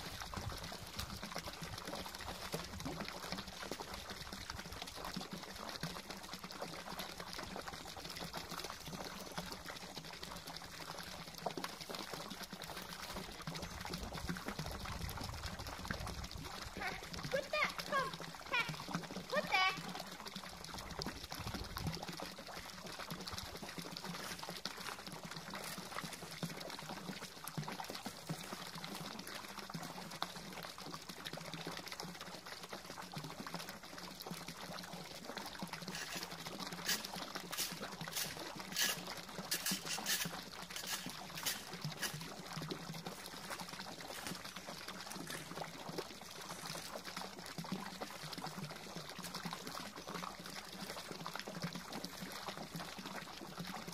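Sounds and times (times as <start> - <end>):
fountain water pouring into pond: 0.0 - 53.9.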